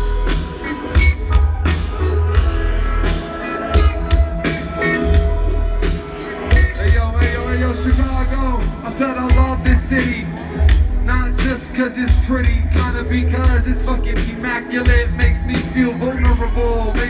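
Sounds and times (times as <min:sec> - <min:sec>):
steady drum hits: 0:00.0 - 0:15.7
electronic hip-hop music: 0:00.0 - 0:17.0
heavy pulsing bass: 0:00.0 - 0:17.0.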